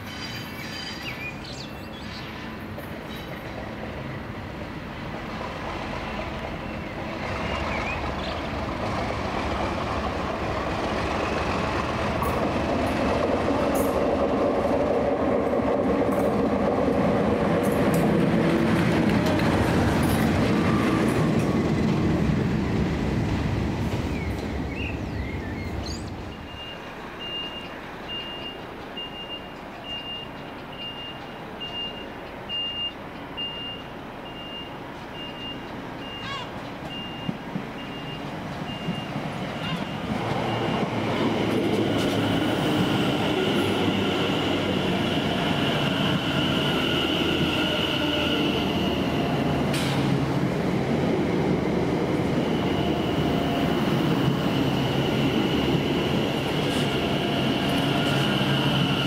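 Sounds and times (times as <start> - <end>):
train passing rumble: 0.0 - 59.0.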